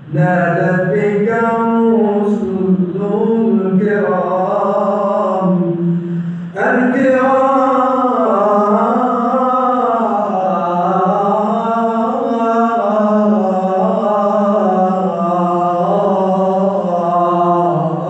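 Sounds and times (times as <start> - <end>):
man chanting melismatically: 0.0 - 18.0.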